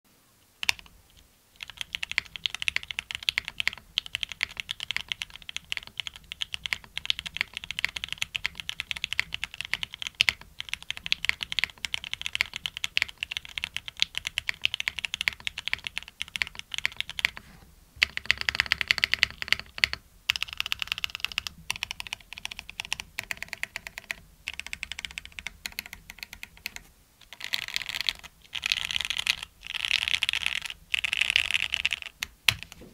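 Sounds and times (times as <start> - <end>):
mechanical keyboard typing: 0.6 - 17.4, 18.0 - 32.8.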